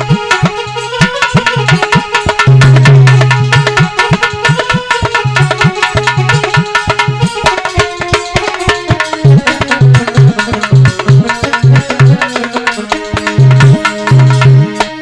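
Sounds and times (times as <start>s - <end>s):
hand drums playing fast rhythm: 0.0s - 15.0s
melodic instrument: 0.0s - 15.0s.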